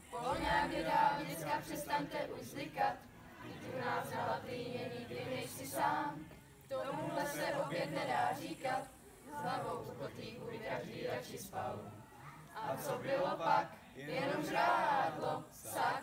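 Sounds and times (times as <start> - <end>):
young voices chanting in unison: 0.0 - 16.0.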